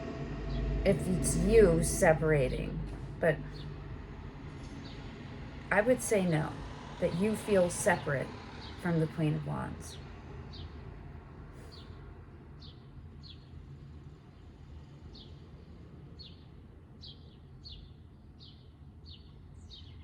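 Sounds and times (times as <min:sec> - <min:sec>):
low steady hum: 0:00.0 - 0:19.7.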